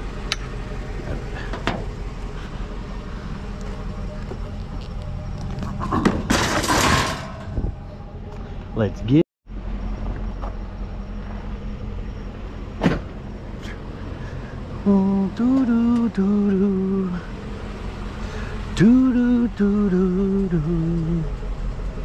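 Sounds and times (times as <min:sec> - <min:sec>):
truck engine idling: 0:00.0 - 0:06.3, 0:07.4 - 0:22.0.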